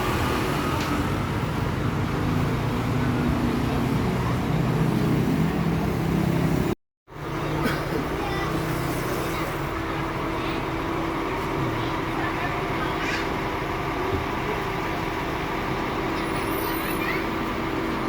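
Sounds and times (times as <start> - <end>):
diesel bus engine rumbling: 0.0 - 18.0.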